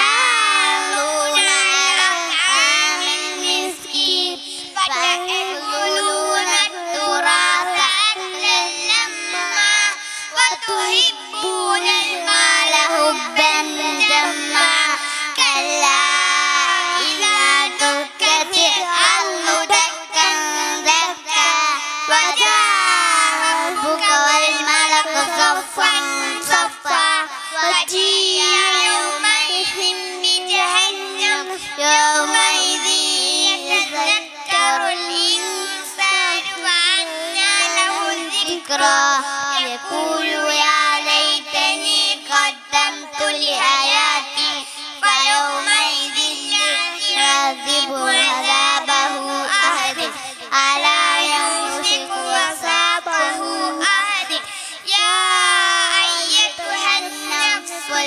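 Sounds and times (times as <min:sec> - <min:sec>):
boys singing together: 0:00.0 - 0:58.0.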